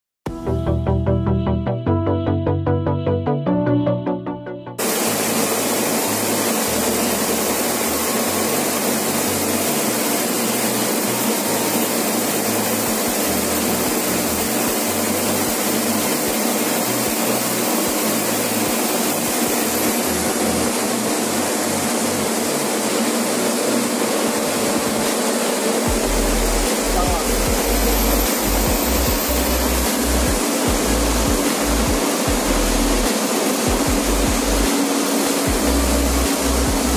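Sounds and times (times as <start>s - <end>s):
diesel bus engine running: 6.0s - 34.7s, 35.3s - 36.9s.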